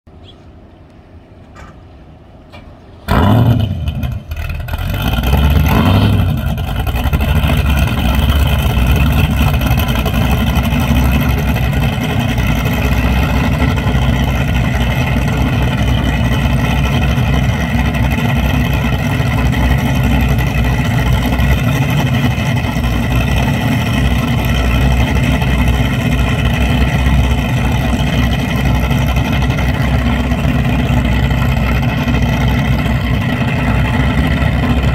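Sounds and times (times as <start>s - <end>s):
boat engines starting and idling: 0.1s - 34.9s.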